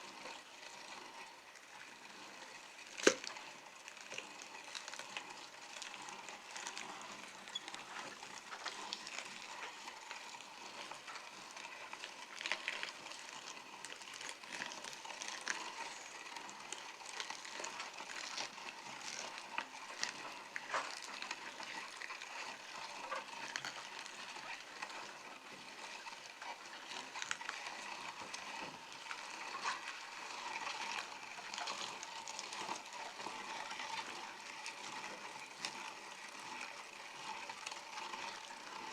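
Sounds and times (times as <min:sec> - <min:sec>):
meat grinder crushing peppers: 0:00.0 - 0:38.9.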